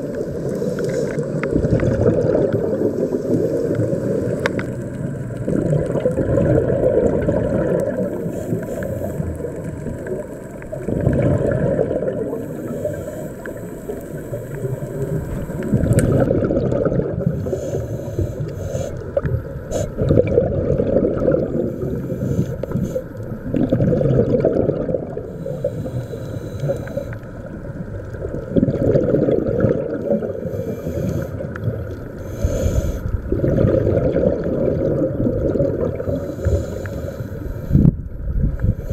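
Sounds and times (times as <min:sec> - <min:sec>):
diver exhaling bubbles: 0:00.0 - 0:27.1, 0:28.1 - 0:38.9
underwater rush of water: 0:00.0 - 0:38.9.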